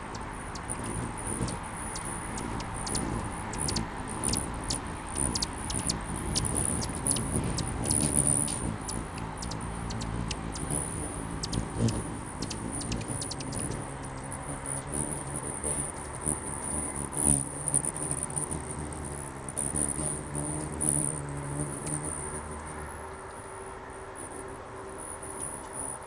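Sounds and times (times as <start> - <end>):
hummingbird wings whirring: 0.0 - 26.0
steady high-pitched whine: 0.0 - 26.0.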